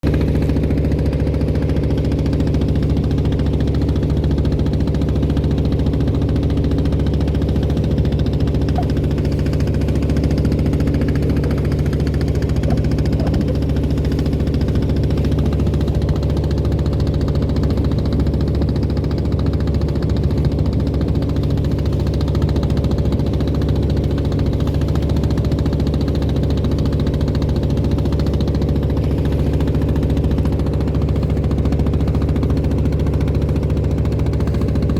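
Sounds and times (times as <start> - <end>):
motorboat engine thudding hum: 0.0 - 34.9.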